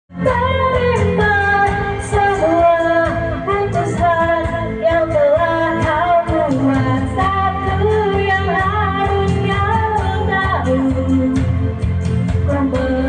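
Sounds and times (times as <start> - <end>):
backing music: 0.1 - 13.0
person singing falsetto pop ballad: 0.2 - 11.8, 12.4 - 13.0.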